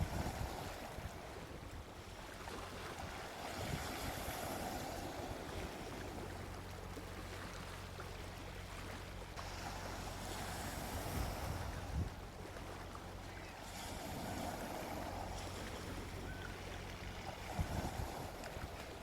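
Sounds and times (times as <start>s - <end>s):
sea waves washing onto beach: 0.0s - 19.0s.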